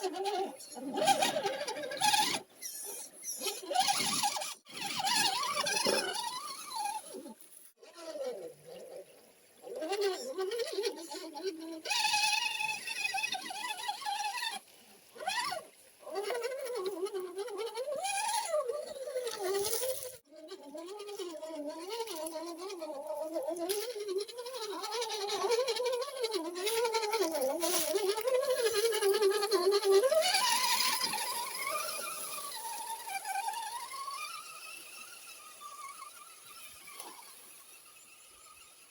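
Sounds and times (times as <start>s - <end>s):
small electric motor whining: 0.0s - 38.9s.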